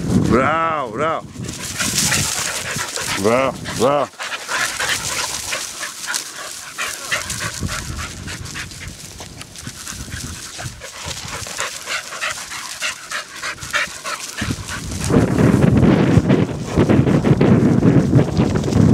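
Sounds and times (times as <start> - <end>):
wind rumble on microphone: 0.0 - 18.9
dog panting: 1.2 - 18.1.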